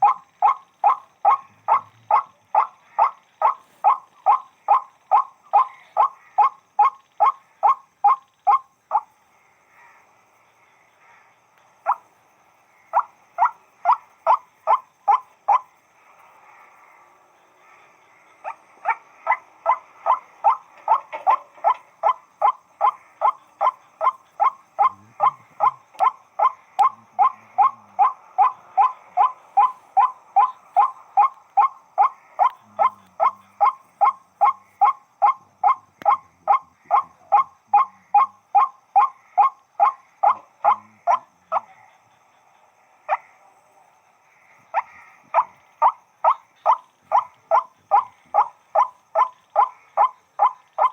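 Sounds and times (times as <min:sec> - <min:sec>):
waterhen calling: 0:00.0 - 0:09.1, 0:12.9 - 0:15.7, 0:18.4 - 0:41.6, 0:44.7 - 0:50.9.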